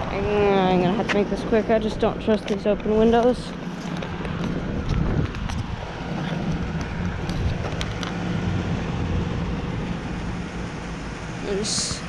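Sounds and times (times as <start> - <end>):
condenser fan noise: 0.0 - 12.0
low compressor hum: 0.0 - 12.0.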